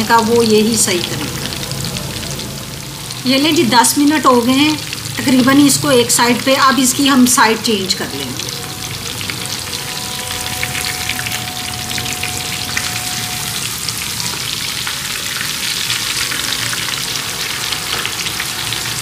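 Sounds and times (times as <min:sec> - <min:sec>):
fish sizzling in hot fat: 0:00.0 - 0:19.0.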